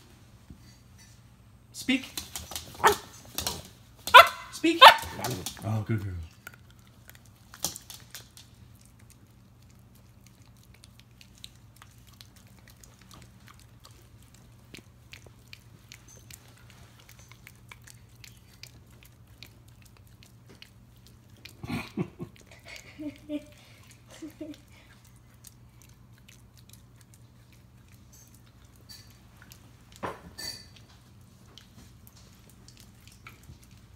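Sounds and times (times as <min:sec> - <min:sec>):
dog licking and chewing: 0:01.9 - 0:33.9.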